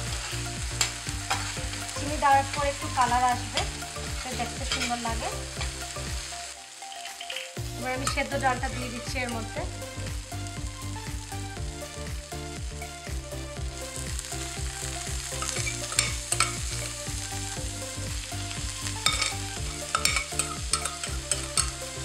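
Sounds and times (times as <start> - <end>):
lentils sizzling in hot oil: 0.0 - 22.0.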